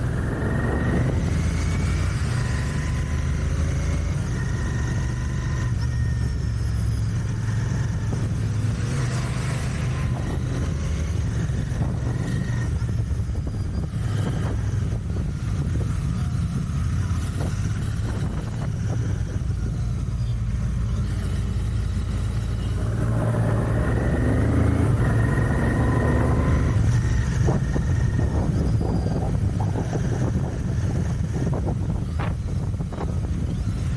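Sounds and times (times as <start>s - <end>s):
motorcycle exhaust drone: 0.0s - 33.9s.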